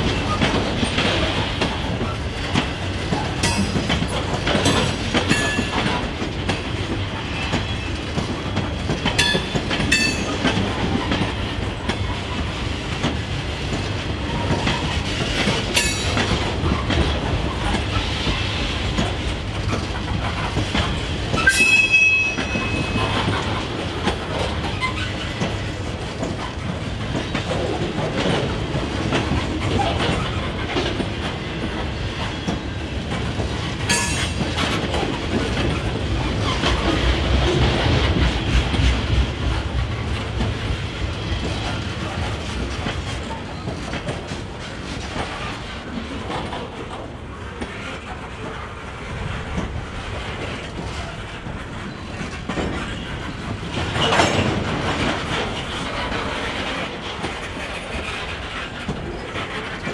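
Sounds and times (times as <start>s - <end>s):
train cars rumbling and clacking: 0.0s - 59.9s.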